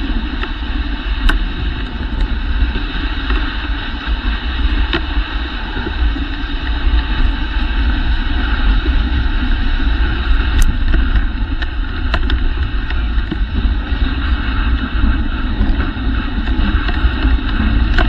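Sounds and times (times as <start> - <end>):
dog sled running over snow: 0.0 - 18.0
wind buffeting microphone: 0.0 - 18.0.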